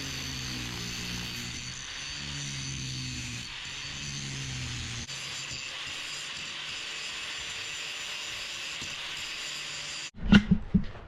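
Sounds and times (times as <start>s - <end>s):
power grinding steel: 0.0s - 10.2s.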